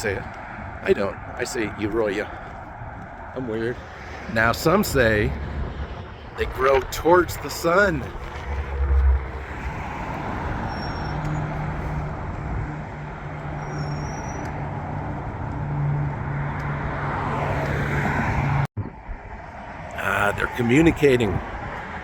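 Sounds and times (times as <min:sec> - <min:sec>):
road traffic rushing by: 0:00.0 - 0:22.0.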